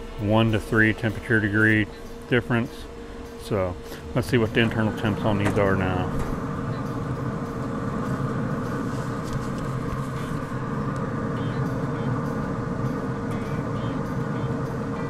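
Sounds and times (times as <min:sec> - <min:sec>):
combustion fan humming: 0:00.0 - 0:15.0
steady tone: 0:00.0 - 0:15.0.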